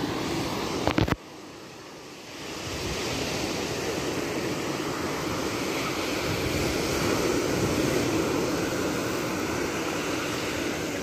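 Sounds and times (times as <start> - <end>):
waves washing on sandy beach: 0.0 - 11.0.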